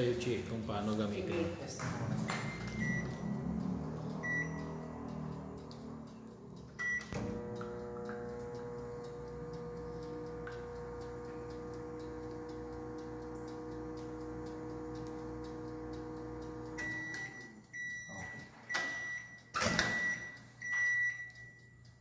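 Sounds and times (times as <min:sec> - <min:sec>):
microwave oven humming: 0:02.0 - 0:22.0
faint ticking: 0:02.2 - 0:22.0
high-pitched microwave beeps: 0:02.3 - 0:05.3, 0:06.8 - 0:22.0.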